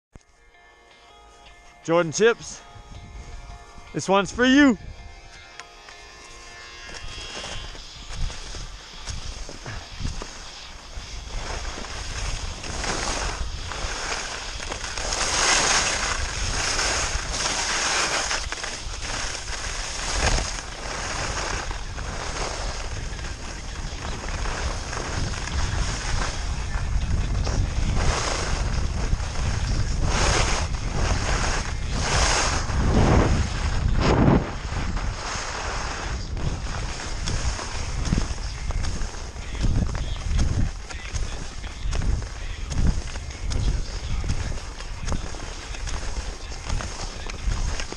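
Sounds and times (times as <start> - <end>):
snow hissing and scraping under skis: 5.8 - 47.9
wind buffeting microphone: 6.9 - 47.9.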